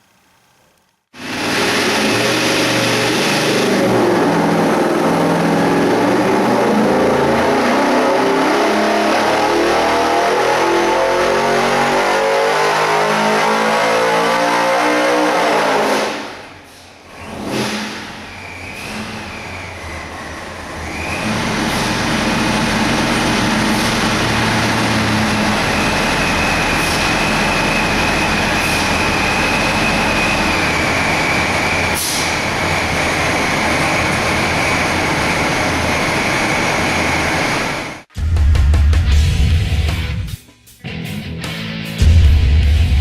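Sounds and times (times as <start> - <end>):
race engine revving: 1.2 - 16.5, 17.1 - 37.8.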